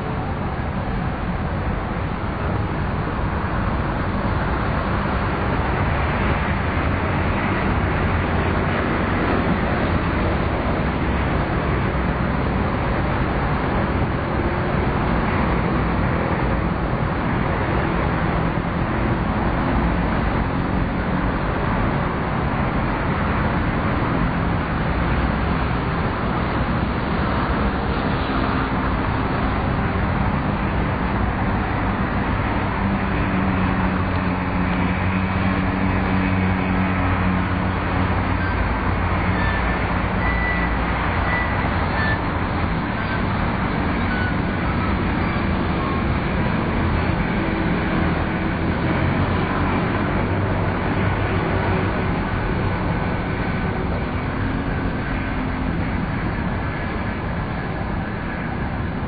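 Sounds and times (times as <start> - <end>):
city traffic: 0.0 - 59.0.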